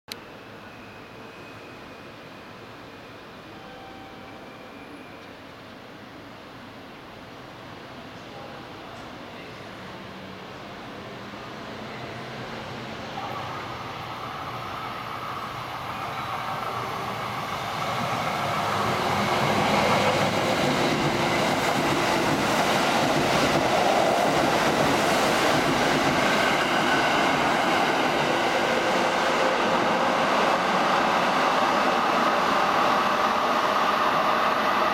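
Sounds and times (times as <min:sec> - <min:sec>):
electric train passing: 0:00.2 - 0:34.9.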